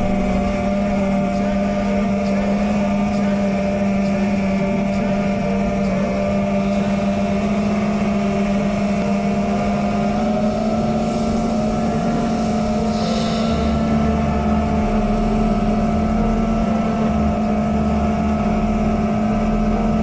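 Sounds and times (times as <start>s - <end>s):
quadcopter motors droning: 0.0s - 20.0s.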